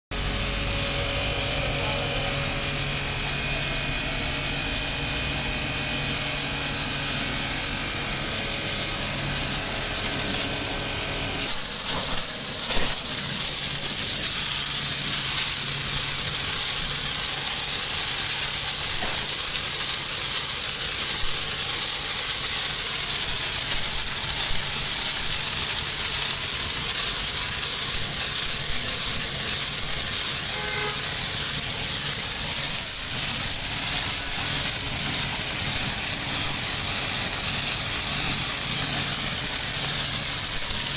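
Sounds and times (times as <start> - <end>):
pressure washer motor hum: 0.1 - 40.9
pressure washer spray hiss: 0.1 - 40.9.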